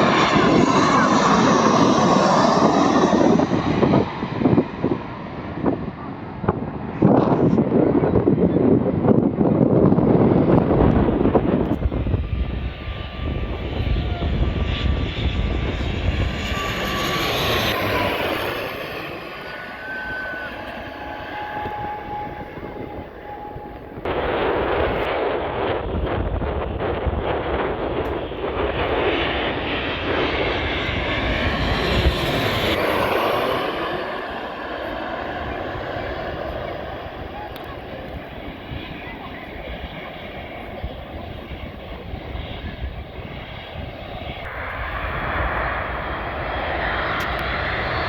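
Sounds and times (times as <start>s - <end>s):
airliner passing overhead: 0.0s - 48.0s.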